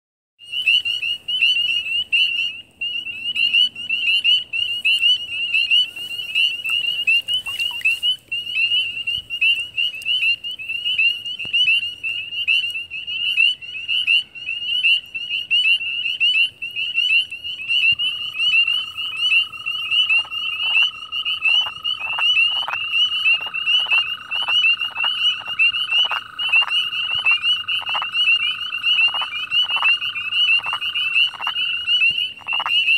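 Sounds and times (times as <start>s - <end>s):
chorus of frogs calling: 0.5s - 32.9s
frog clucking: 0.5s - 32.9s.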